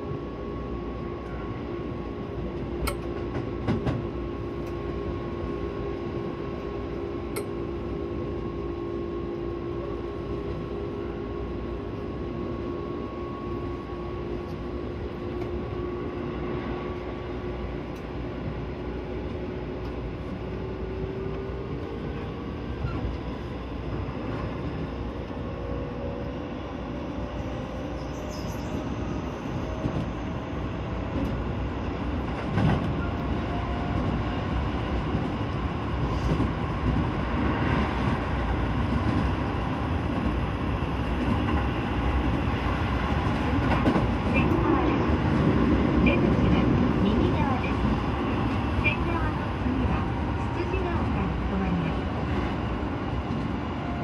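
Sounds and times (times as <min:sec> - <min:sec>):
electric train inverter whine: 0:00.0 - 0:54.0
wheels rumbling on track: 0:00.0 - 0:54.0.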